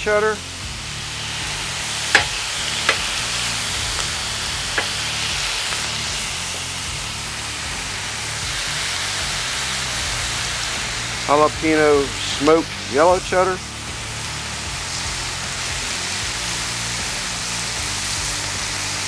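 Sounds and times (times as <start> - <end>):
food sizzling on griddle: 0.0 - 19.0.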